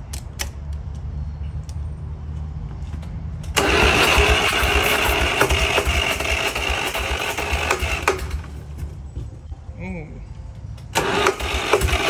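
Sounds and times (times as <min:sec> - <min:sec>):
engine high whine: 0:00.4 - 0:12.0
diesel engine running: 0:00.9 - 0:12.0.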